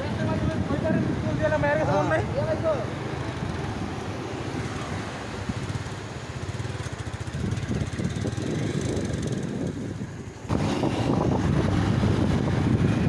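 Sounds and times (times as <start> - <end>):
low rumble of traffic: 0.0 - 13.0
wind buffeting microphone: 0.0 - 13.0.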